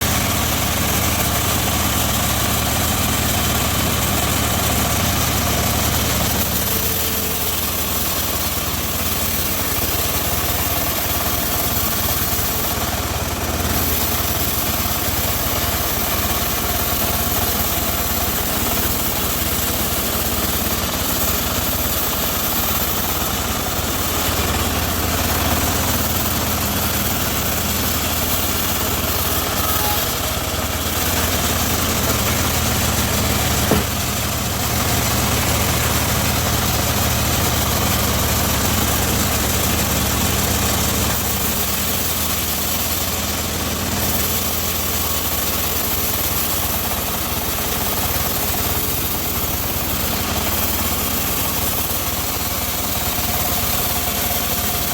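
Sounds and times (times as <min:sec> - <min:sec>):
bandsaw mill drone: 0:00.0 - 0:54.9.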